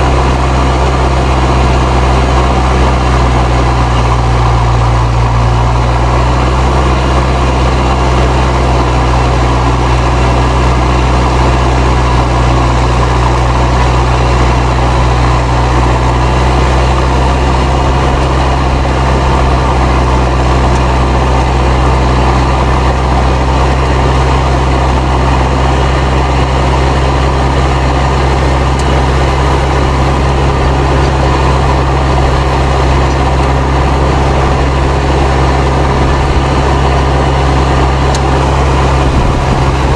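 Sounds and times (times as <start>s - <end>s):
tractor diesel engine hum: 0.0s - 39.9s
turbocharger whistling: 0.0s - 39.9s.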